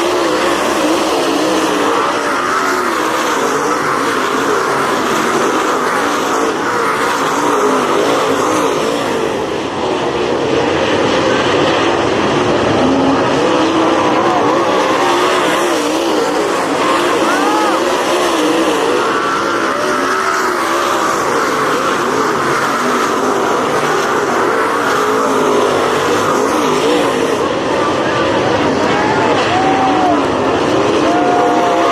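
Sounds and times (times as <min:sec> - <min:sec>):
race car engines running hard: 0:00.0 - 0:31.9.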